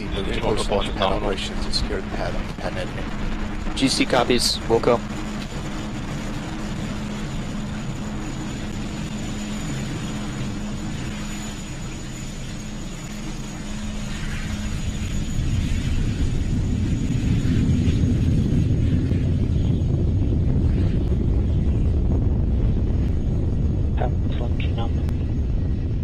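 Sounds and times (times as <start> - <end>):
rocket engines rumbling: 0.0 - 26.0.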